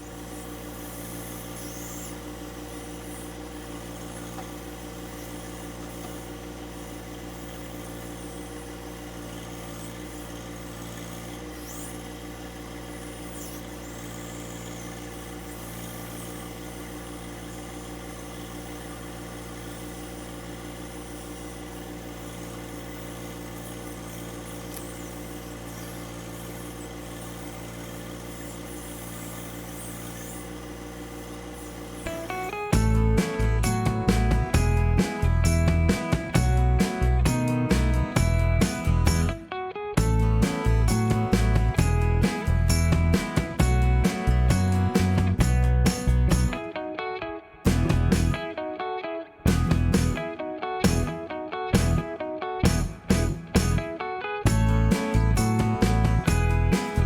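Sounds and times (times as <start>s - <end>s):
tractor diesel engine running: 0.0s - 46.8s, 47.6s - 48.5s, 49.5s - 57.0s.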